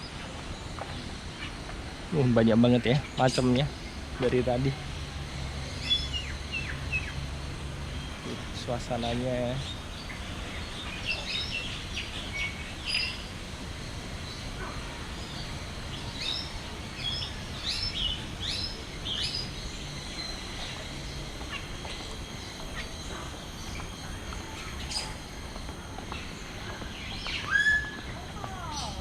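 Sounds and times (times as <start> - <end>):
low background hum: 0.0 - 29.0
birds chirping and whistling: 2.4 - 29.0.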